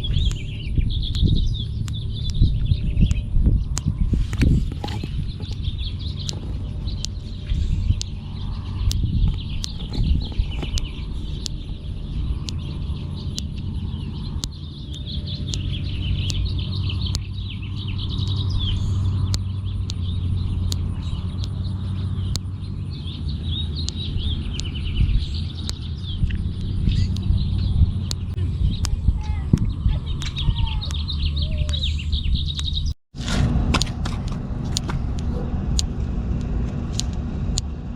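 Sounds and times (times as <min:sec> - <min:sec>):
birds chirping: 0:00.0 - 0:33.0
sharp click: 0:00.0 - 0:37.7
low steady rumble: 0:00.0 - 0:37.9.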